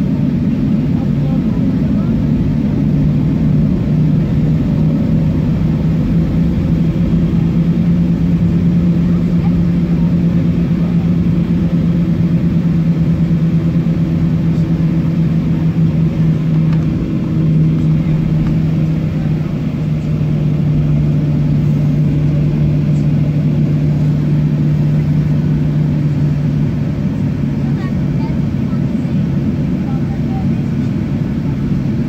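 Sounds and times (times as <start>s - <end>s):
jet engines droning in cabin: 0.0s - 32.0s.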